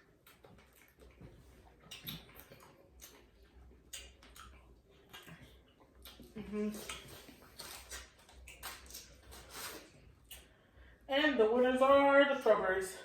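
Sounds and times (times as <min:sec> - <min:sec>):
person chewing: 0:00.0 - 0:10.8.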